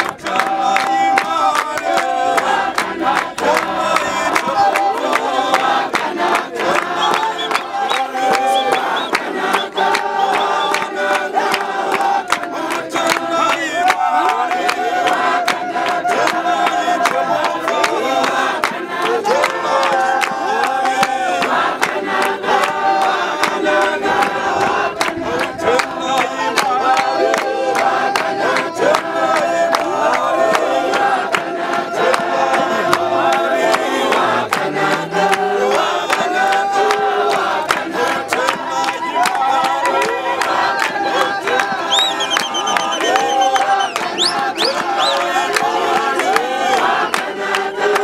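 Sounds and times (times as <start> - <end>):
congregation singing: 0.0 - 48.0
hand clapping: 0.0 - 48.0.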